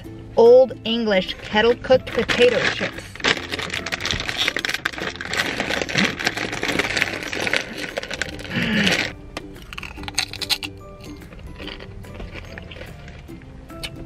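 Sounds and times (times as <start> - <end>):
plastic chip bag crinkling: 1.3 - 13.3.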